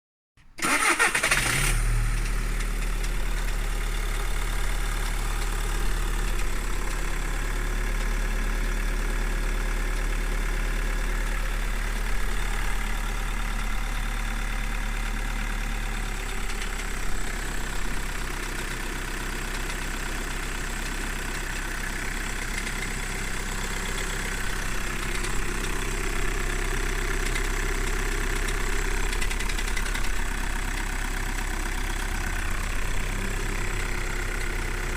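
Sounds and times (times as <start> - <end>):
diesel engine idling with rattling: 0.7 - 34.9.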